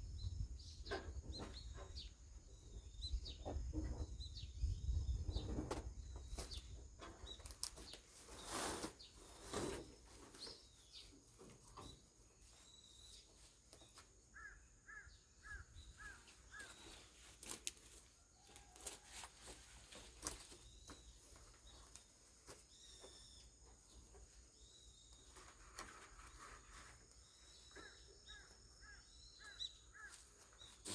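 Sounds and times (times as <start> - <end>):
bird chirping: 0.0 - 17.4, 20.2 - 30.9
faint high bird chirps: 0.0 - 30.9.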